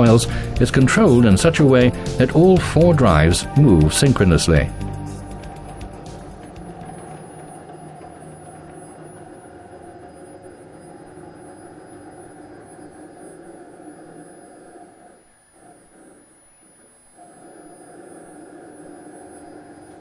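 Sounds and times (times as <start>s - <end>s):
faint steady tones: 0.0s - 20.0s.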